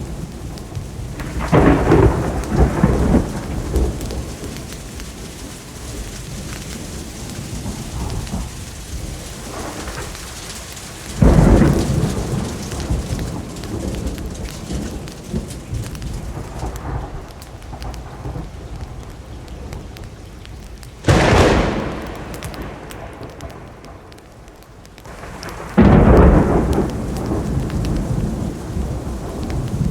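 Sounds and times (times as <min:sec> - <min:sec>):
steady rain falling: 0:00.0 - 0:29.9
thunderclaps: 0:00.0 - 0:29.9.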